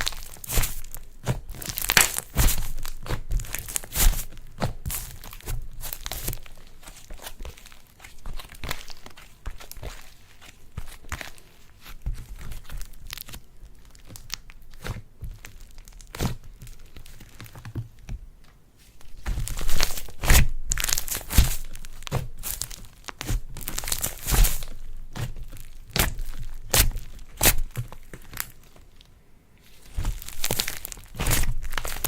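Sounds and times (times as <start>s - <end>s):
slime crackling and popping: 0.0s - 17.6s, 19.0s - 29.1s, 29.8s - 32.0s.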